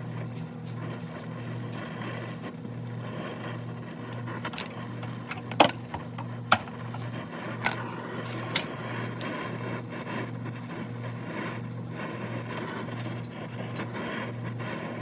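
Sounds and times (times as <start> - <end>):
torch hissing: 0.0 - 15.0.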